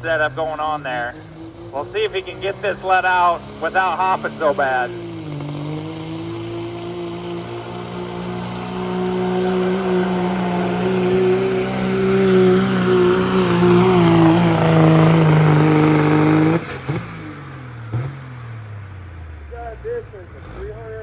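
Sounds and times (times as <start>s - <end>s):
engine at full throttle: 0.0s - 21.0s.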